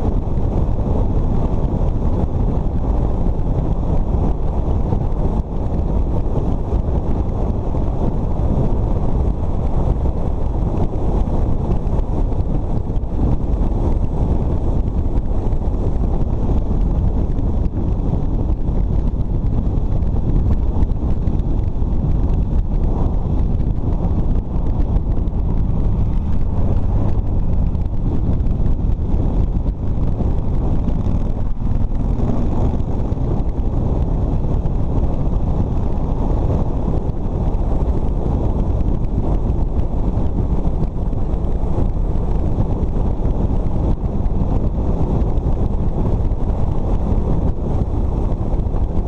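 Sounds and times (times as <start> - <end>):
road noise: 0.0 - 49.0
wind buffeting microphone: 0.0 - 49.0.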